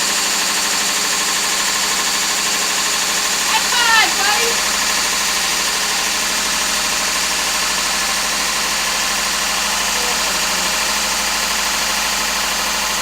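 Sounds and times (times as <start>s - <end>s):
four-cylinder engine running: 0.0s - 13.0s.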